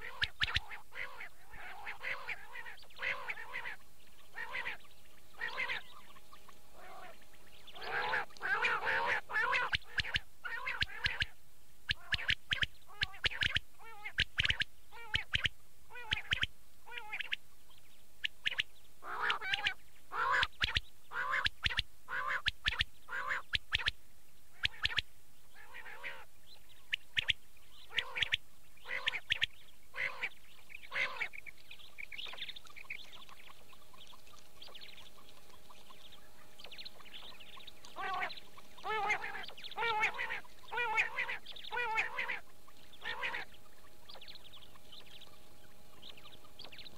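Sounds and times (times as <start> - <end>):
quail calling: 0.0 - 17.4, 18.2 - 46.9.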